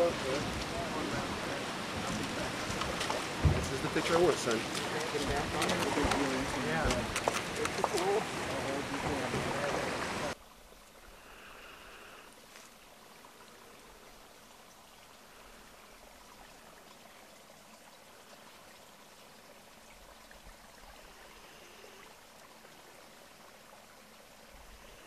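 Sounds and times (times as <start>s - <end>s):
faint outdoor hiss: 0.0s - 25.0s.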